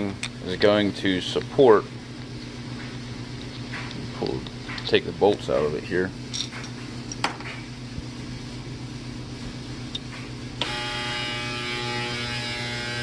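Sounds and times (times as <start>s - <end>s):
electric buzzing hum: 0.0s - 13.0s.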